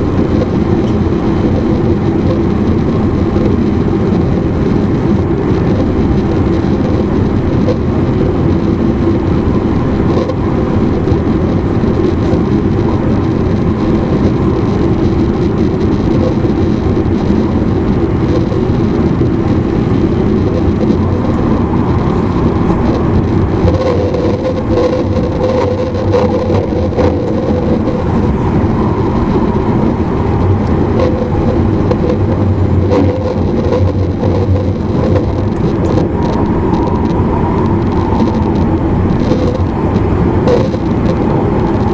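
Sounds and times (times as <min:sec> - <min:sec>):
traction motor humming tone: 0:00.0 - 0:41.9
train wheels rumbling on rails: 0:00.0 - 0:41.9.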